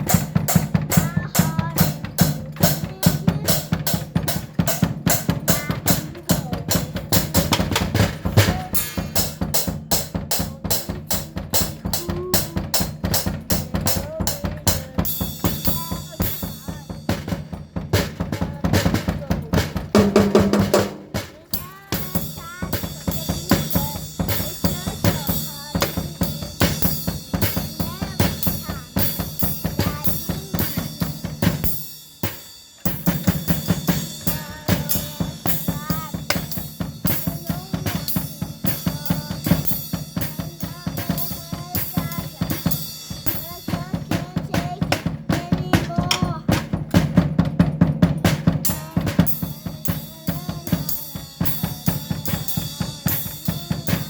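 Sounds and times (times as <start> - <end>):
drum kit playing fast beat: 0.0 - 54.0.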